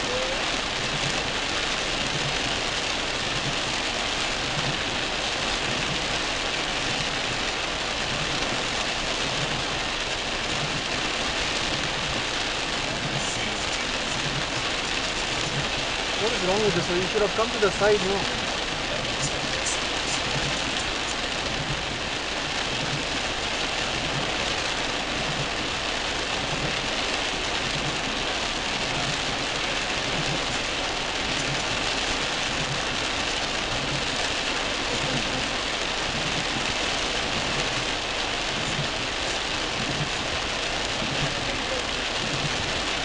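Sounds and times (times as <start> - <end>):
heavy rain on car roof: 0.0 - 43.0.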